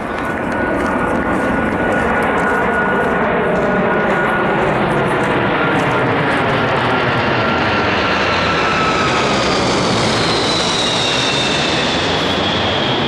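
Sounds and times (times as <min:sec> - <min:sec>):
aircraft passing over: 0:00.0 - 0:13.0.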